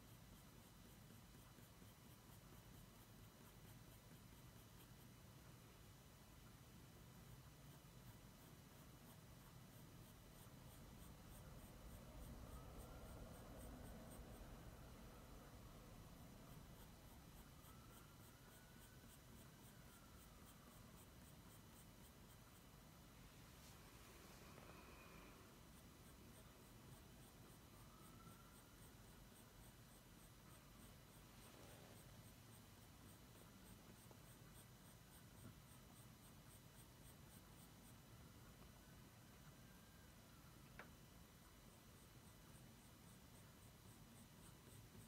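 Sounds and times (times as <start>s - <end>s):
pencil scratching on paper: 0.0s - 38.6s.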